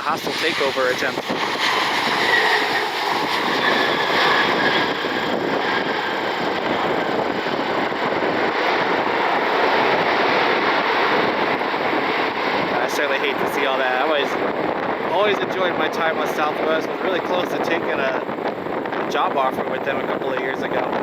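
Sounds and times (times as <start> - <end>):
faint engine whine: 0.0 - 21.0
jet engines running: 0.0 - 21.0.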